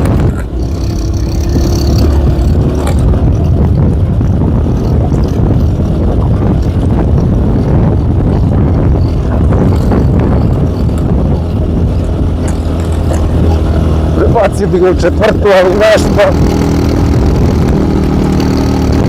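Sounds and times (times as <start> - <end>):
two-stroke motorcycle engine: 0.0 - 19.0.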